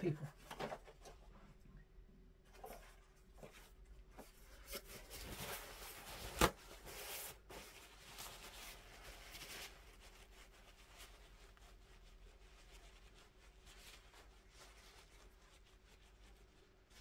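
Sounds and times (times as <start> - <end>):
rubbing and scraping of materials: 2.5 - 17.0.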